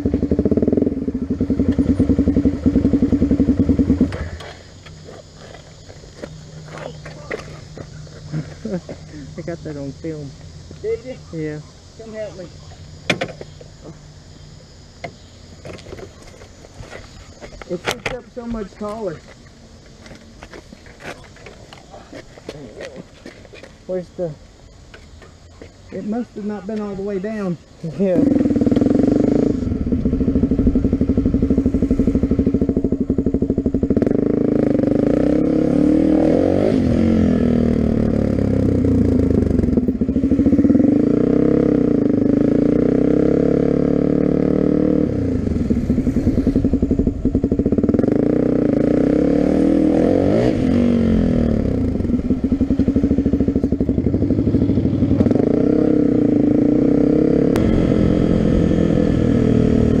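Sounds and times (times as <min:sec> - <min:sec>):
motorcycle engine accelerating: 0:00.0 - 0:16.2, 0:27.9 - 1:00.0.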